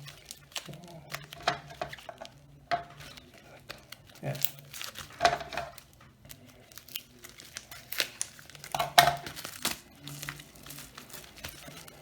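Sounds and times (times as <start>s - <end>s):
packaging wrap crinkling and tearing: 0.0s - 12.0s.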